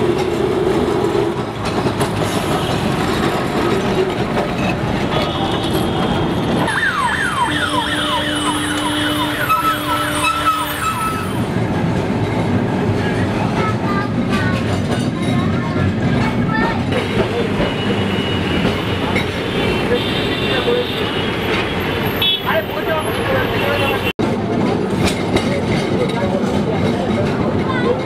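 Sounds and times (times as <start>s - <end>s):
city traffic: 0.0s - 28.0s
tram running on street track: 0.0s - 28.0s.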